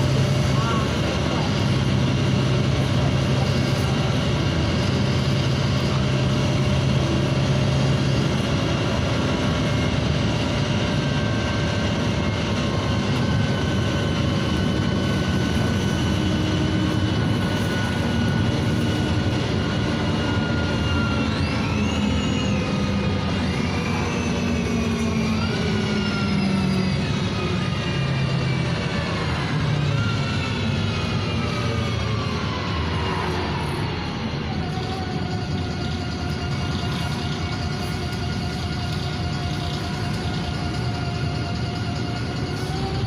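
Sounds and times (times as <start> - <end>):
bus engine drone: 0.0 - 43.0
drivetrain whine: 0.0 - 43.0.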